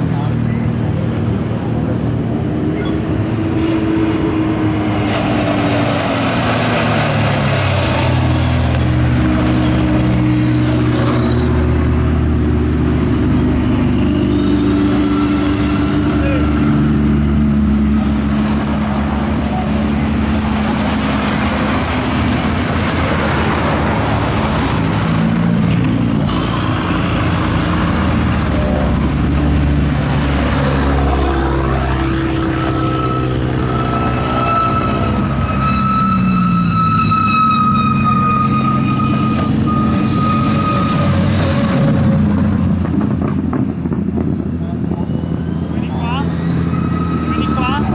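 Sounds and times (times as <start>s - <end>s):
engine notes gliding: 0.0s - 47.9s
high engine whine: 0.0s - 47.9s
low engine drone: 0.0s - 47.9s.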